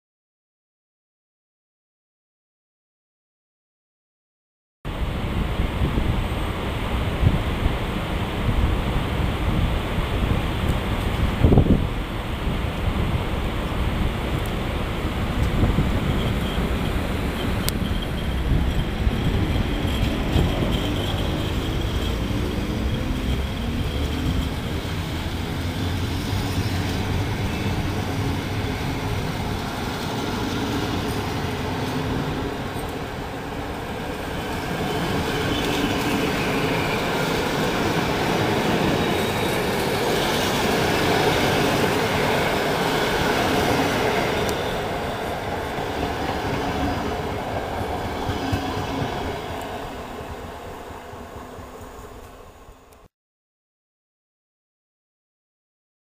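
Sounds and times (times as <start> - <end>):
train wheels rumbling on rails: 5.0 - 52.5.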